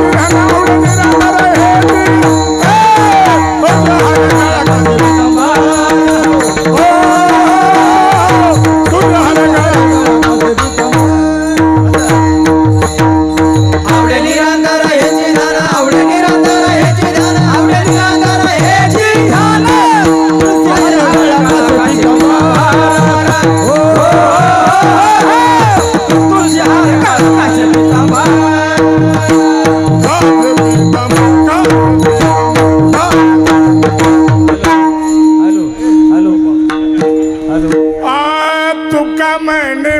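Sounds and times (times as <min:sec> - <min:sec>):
hand drum rhythm: 0:00.0 - 0:38.2
jingling percussion: 0:00.0 - 0:39.9
man singing devotional melody: 0:00.0 - 0:39.9.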